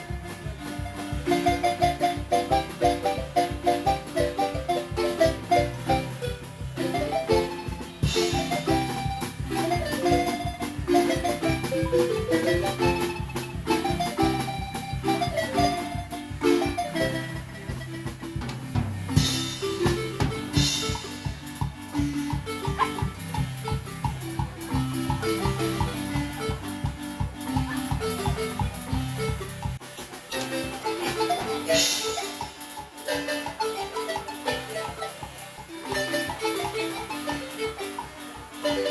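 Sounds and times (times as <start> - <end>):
marimba ensemble playing dance tune: 0.0 - 38.9
percussion beat: 0.0 - 38.9.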